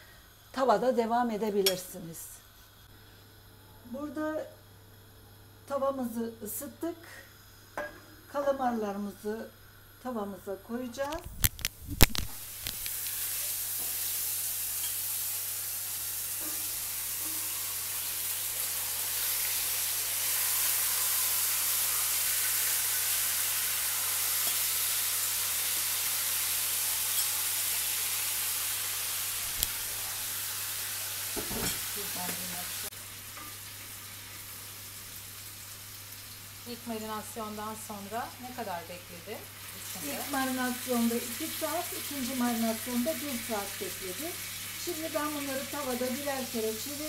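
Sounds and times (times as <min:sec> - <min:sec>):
squid sizzling in hot oil: 0:05.7 - 0:47.0.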